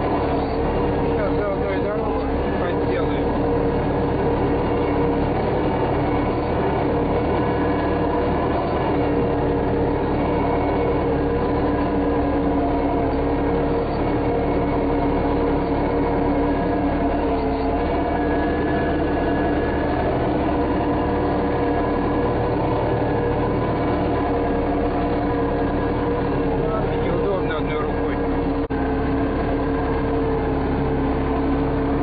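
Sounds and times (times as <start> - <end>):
earth-moving machine engine running: 0.0 - 32.0.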